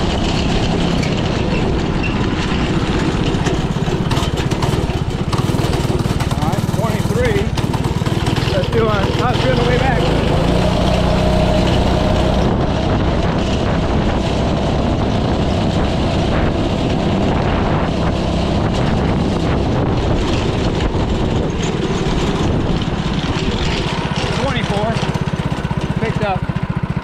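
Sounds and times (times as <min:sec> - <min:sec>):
go-kart engine running hard: 0:00.0 - 0:27.0.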